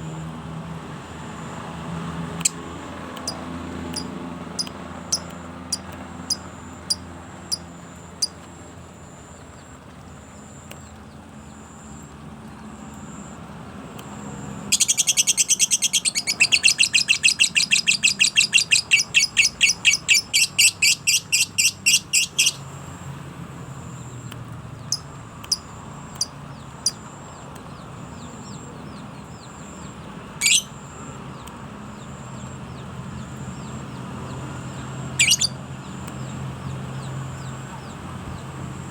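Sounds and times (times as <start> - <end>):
songbird chirping: 0.9 - 38.9.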